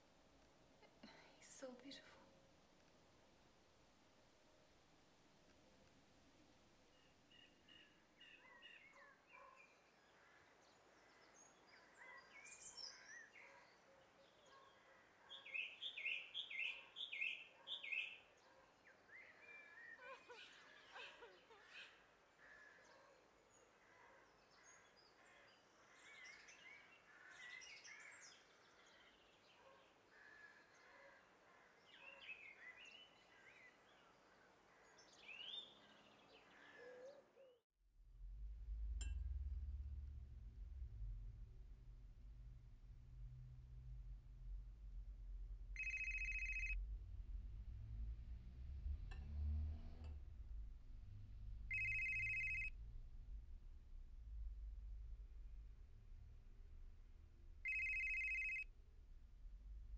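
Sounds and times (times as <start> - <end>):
faint birdsong: 5.5 - 37.6, 38.6 - 58.7.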